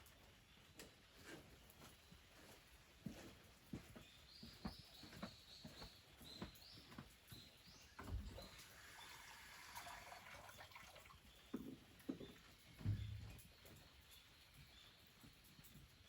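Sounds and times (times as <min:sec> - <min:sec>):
small birds chirping: 0:00.0 - 0:09.9, 0:10.8 - 0:16.0.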